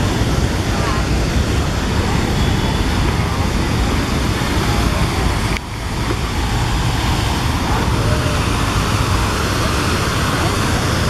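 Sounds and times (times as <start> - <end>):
fountain jets splashing: 0.0 - 11.0
road traffic: 0.0 - 11.0.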